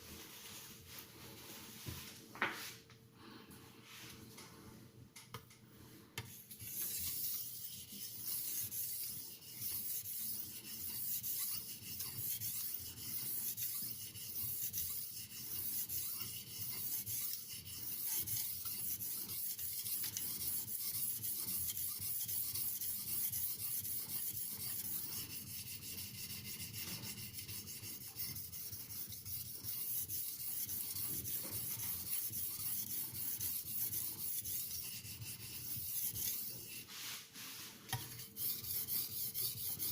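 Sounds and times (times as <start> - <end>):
knife rubbing on sharpening stone: 6.3 - 39.9.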